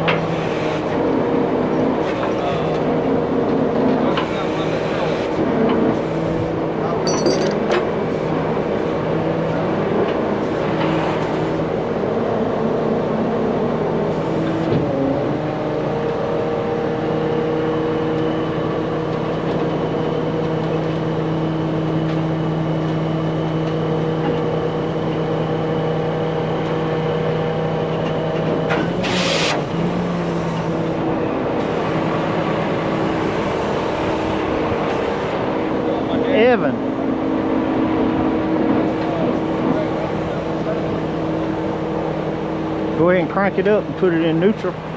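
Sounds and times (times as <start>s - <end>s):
heavy truck engine running: 0.0s - 44.9s.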